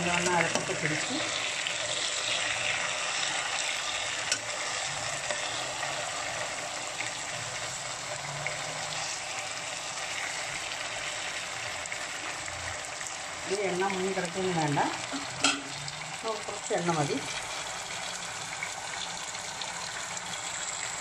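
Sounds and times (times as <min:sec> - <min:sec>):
chicken sizzling in oil: 0:00.0 - 0:21.0.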